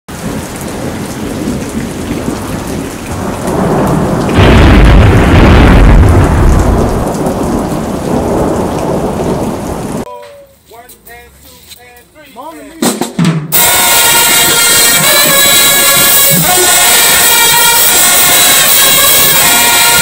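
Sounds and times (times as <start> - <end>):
rolling thunder: 0.1 - 10.0, 13.6 - 20.0
steady rain: 0.1 - 12.8, 13.6 - 20.0.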